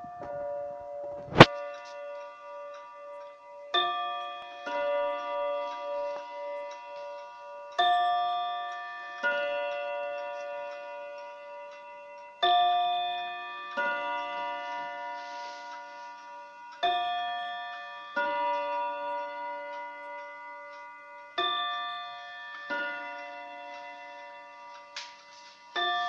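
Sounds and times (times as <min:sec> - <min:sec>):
clock ticking: 0:00.0 - 0:26.0
wall clock chiming: 0:00.0 - 0:26.0.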